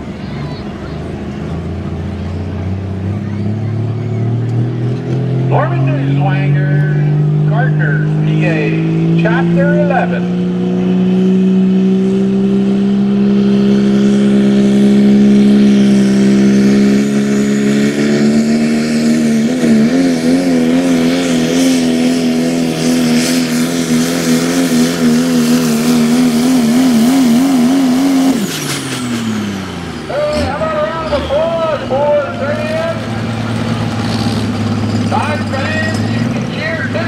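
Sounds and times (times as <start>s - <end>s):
truck engine at full throttle: 0.0s - 37.0s.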